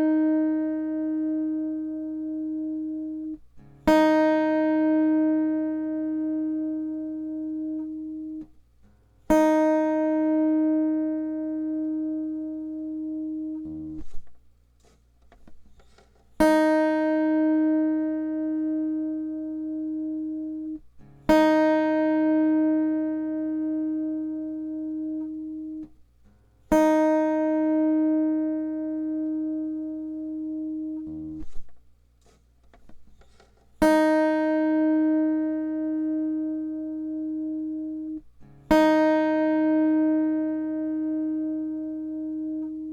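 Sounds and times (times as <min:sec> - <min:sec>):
acoustic guitar string plucked: 0:00.0 - 0:08.6, 0:09.3 - 0:26.0, 0:26.7 - 0:42.9.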